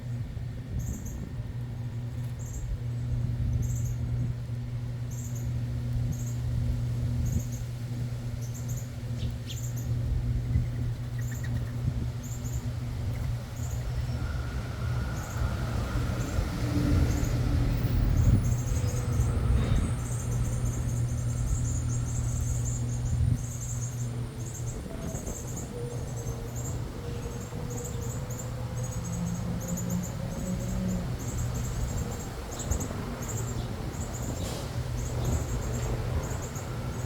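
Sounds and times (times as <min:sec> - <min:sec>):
distant traffic rumble: 0:00.0 - 0:37.0
small birds chirping: 0:02.1 - 0:04.3, 0:05.0 - 0:37.0.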